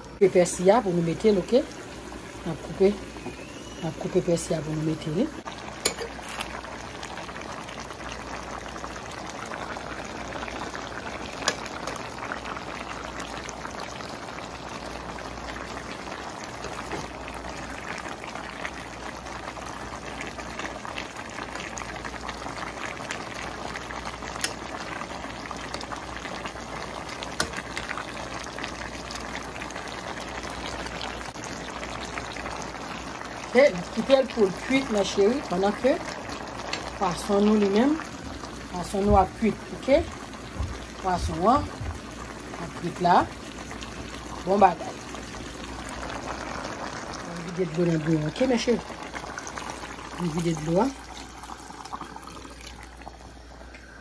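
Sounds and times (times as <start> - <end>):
broth bubbling in a pan: 0.0 - 54.0.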